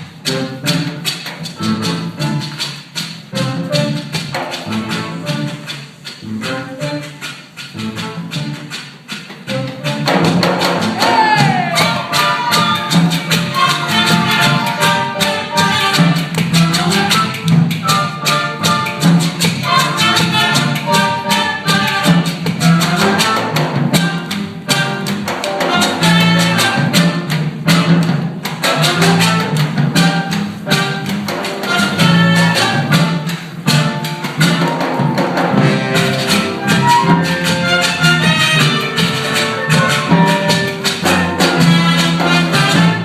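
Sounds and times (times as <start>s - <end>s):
orchestra playing dance music: 0.0s - 43.0s.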